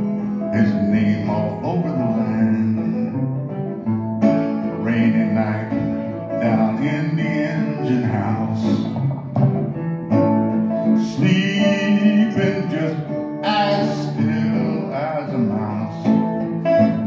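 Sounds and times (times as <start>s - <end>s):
man singing: 0.0s - 3.4s, 4.5s - 9.3s, 10.8s - 17.0s
resonator guitar picked: 0.0s - 17.0s.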